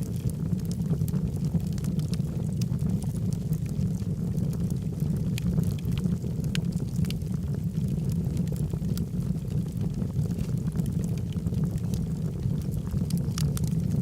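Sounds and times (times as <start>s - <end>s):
log fire crackling: 0.0s - 14.0s.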